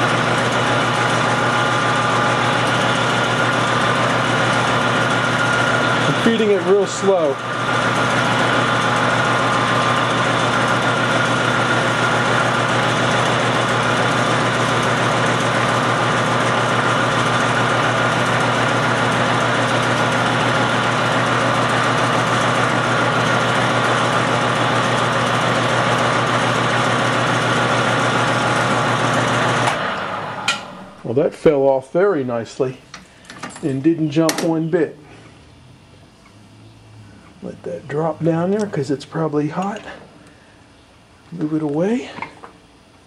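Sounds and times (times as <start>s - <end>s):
metal lathe running: 0.0s - 31.7s, 37.2s - 40.1s.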